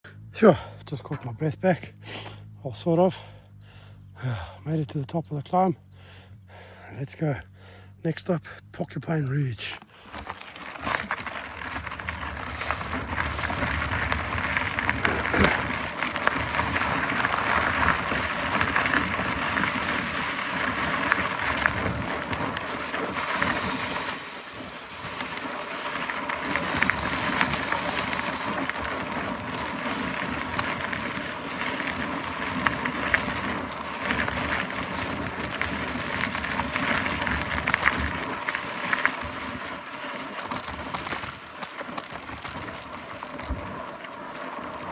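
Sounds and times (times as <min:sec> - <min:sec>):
bike tyres on rough dirt: 0:00.0 - 0:44.9
bike clicks and rattles: 0:08.6 - 0:44.9.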